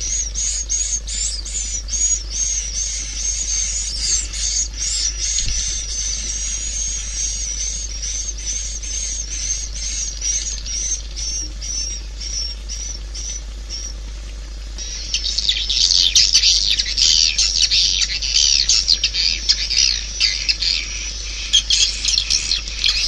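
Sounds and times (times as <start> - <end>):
dense chatter of overlapping chirps: 0.0 - 14.0, 14.8 - 23.0.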